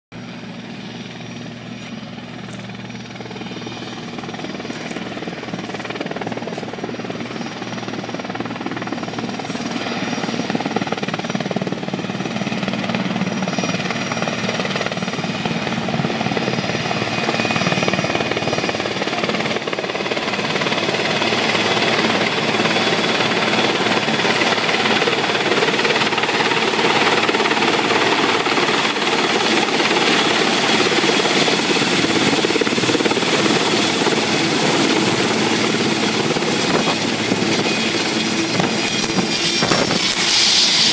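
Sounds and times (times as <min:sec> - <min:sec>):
helicopter rotor and engine: 0:00.1 - 0:40.9.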